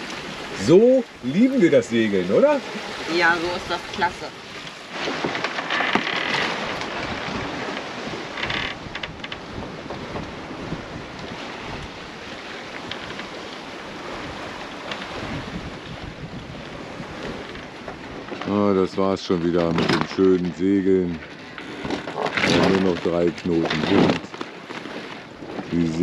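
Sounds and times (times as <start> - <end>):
waves washing along hull: 0.0 - 26.0
wind buffeting microphone: 0.0 - 26.0.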